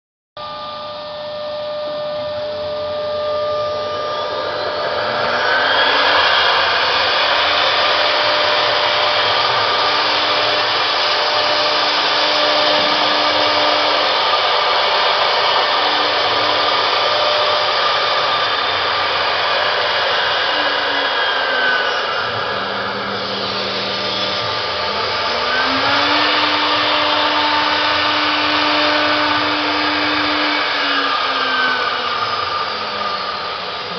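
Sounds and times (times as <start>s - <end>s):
router spindles whining: 0.4s - 33.9s
hiss of wood cutting: 3.5s - 33.9s.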